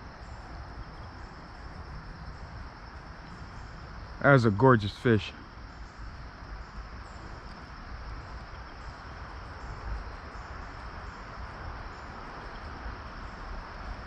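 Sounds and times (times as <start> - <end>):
faint insect chirring: 0.0 - 14.0
outdoor background hiss: 0.0 - 14.0.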